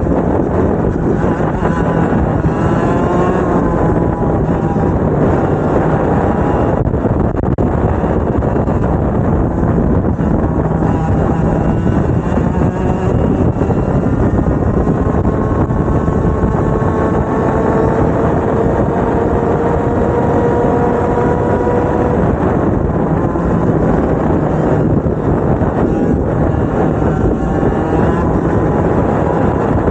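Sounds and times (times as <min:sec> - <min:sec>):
two-stroke kart engine full throttle: 0:00.0 - 0:29.9.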